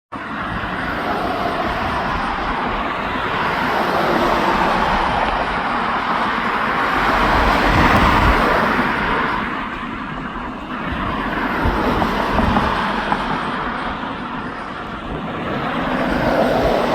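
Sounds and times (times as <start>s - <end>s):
vehicle road and wind noise: 0.1s - 16.9s.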